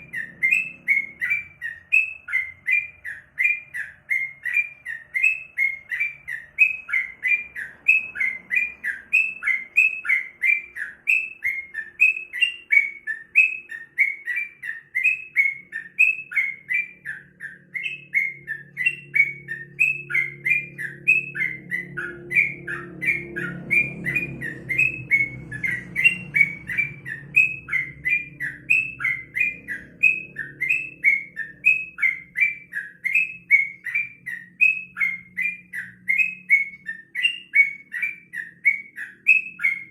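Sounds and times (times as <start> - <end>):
bird singing chirpy notes: 0.0 - 39.9.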